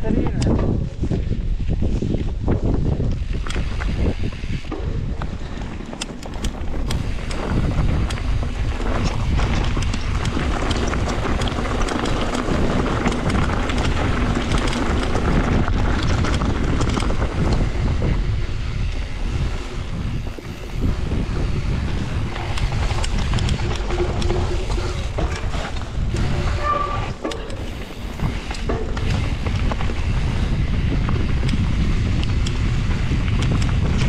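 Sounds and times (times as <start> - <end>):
wind buffeting microphone: 0.0 - 34.0
bike clattering over bumps: 2.4 - 34.0
tyres rolling over dirt: 3.3 - 34.0.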